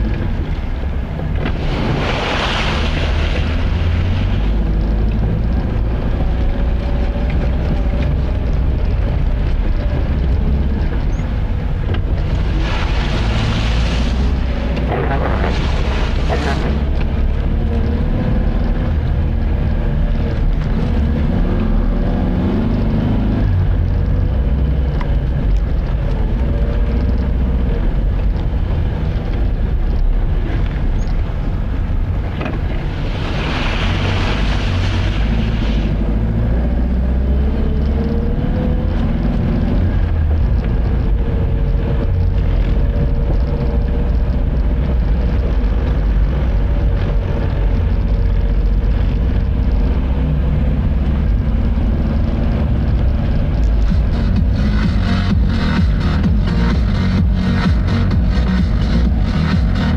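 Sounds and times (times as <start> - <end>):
car engine: 0.0 - 59.9
road rumble: 0.0 - 59.9.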